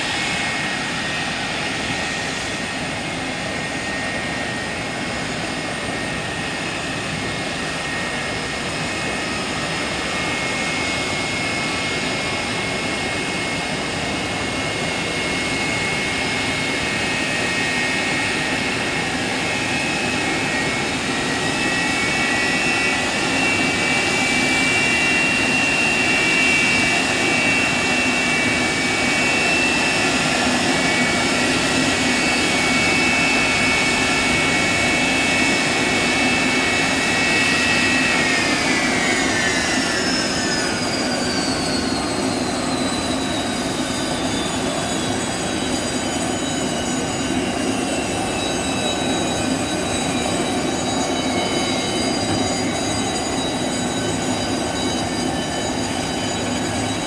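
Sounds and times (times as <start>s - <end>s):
jet engine roar with whine: 0.0s - 57.0s.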